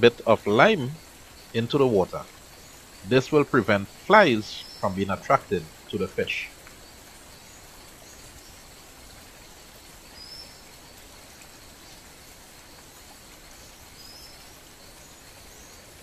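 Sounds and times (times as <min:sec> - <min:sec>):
steady low hiss: 0:00.0 - 0:16.0.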